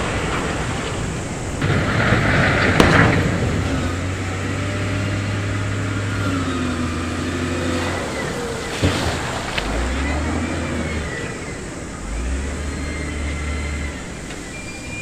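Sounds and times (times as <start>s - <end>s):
diesel machinery engine humming: 0.0s - 15.0s.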